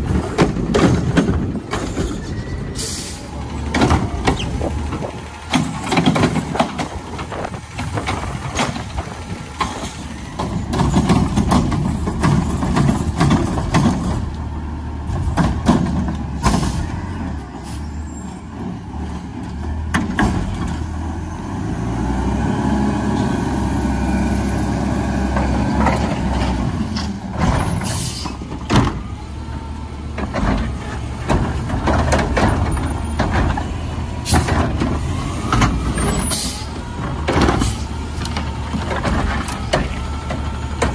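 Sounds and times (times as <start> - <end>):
garbage truck diesel engine: 0.0 - 40.9.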